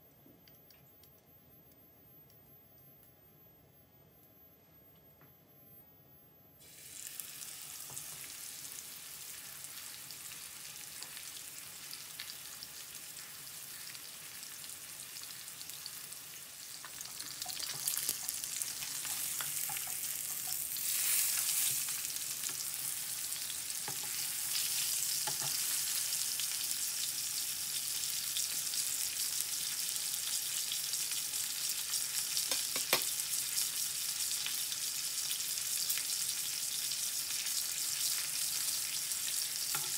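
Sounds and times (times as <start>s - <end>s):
oil sizzling in frying pan: 6.6s - 39.9s
steak searing: 6.6s - 39.9s.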